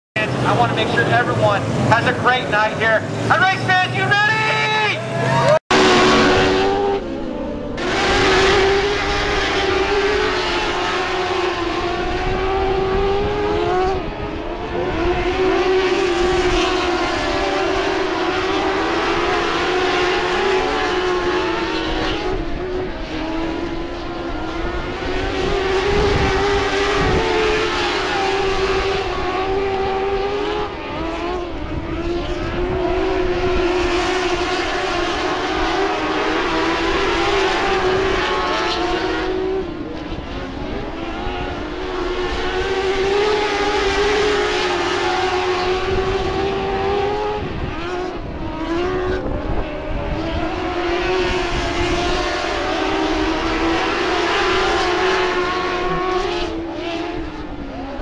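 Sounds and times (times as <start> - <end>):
race car engines passing: 0.2 - 58.0.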